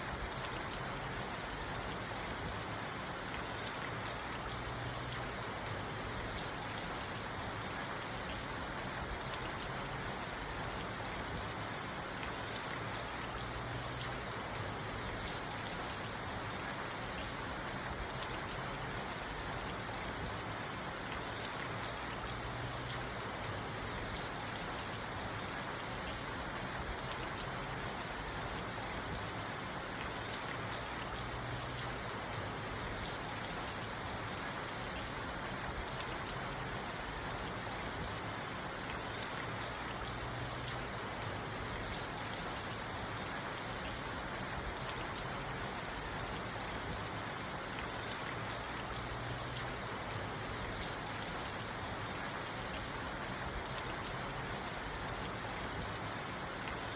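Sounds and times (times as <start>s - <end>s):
rain on a car roof: 0.0s - 56.9s.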